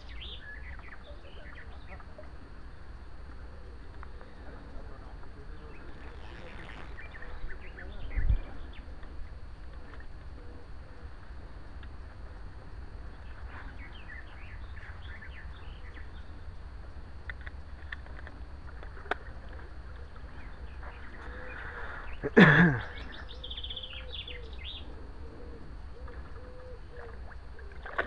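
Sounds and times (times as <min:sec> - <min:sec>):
small birds chirping: 0:00.0 - 0:11.0, 0:12.9 - 0:28.0
steady low rumble: 0:00.0 - 0:28.0.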